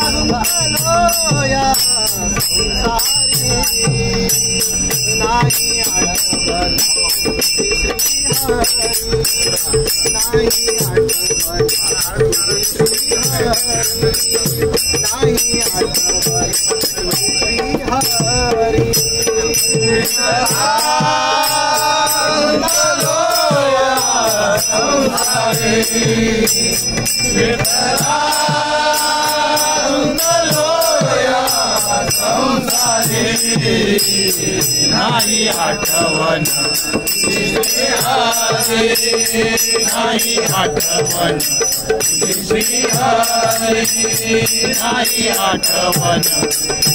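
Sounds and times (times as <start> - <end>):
hand cymbals ringing: 0.0 - 46.9
hand drums: 0.0 - 46.9
male chorus singing: 0.0 - 46.9.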